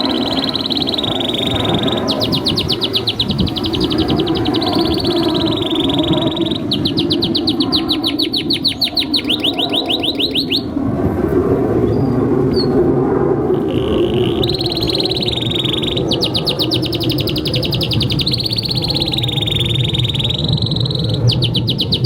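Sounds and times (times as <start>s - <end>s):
canary singing trills: 0.0s - 10.8s, 13.5s - 22.0s.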